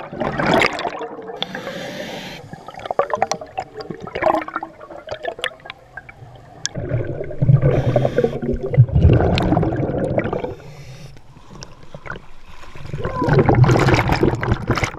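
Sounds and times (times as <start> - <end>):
underwater bubbles gurgling: 0.0 - 14.9.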